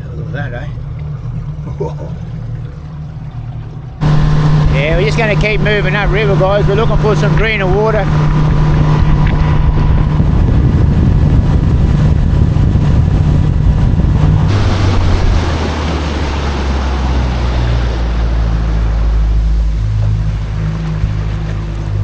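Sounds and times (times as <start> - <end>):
outboard motor running: 0.0 - 22.0
wind: 0.0 - 22.0
water rushing: 2.7 - 22.0.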